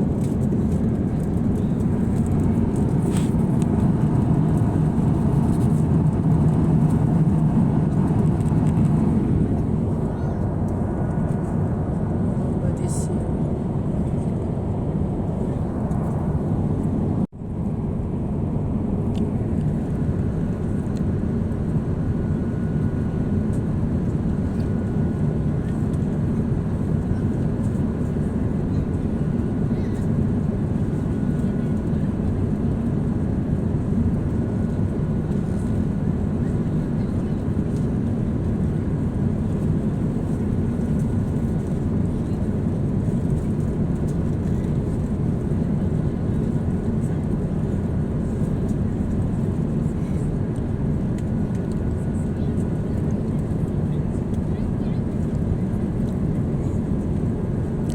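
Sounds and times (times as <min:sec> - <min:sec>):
jet airliner cabin noise: 0:00.0 - 0:57.9.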